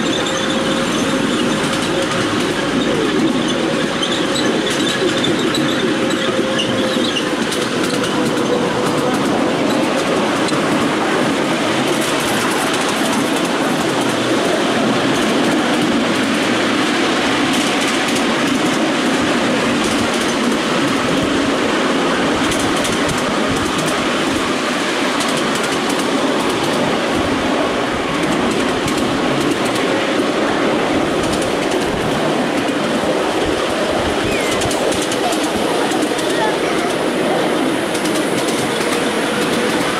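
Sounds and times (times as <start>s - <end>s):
wheels running on rails: 0.0s - 39.9s.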